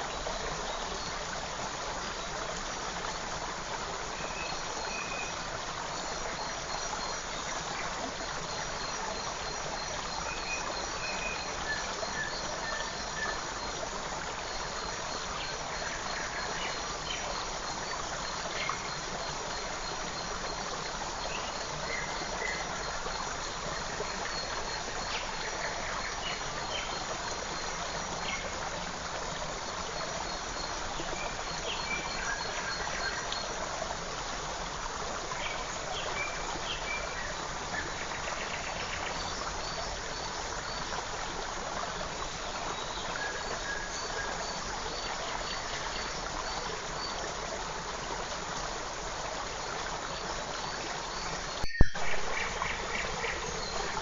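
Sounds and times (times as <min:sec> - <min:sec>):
creek running: 0:00.0 - 0:54.0.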